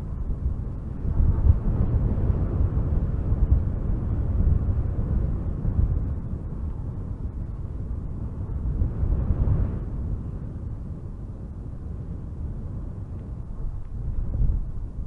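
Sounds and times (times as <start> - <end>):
strong wind gusting through trees: 0.0 - 15.0.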